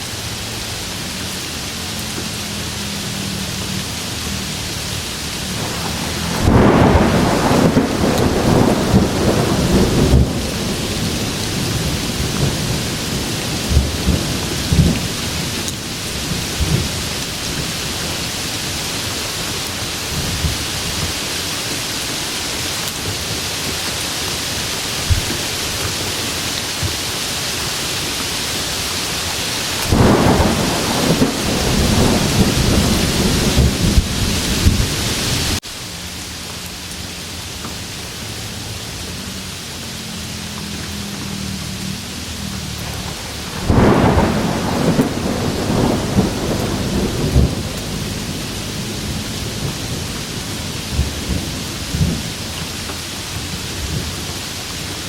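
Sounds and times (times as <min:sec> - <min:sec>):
thunder rumbling: 0:00.0 - 0:35.7, 0:37.4 - 0:55.0
heavy rain: 0:00.0 - 0:55.0.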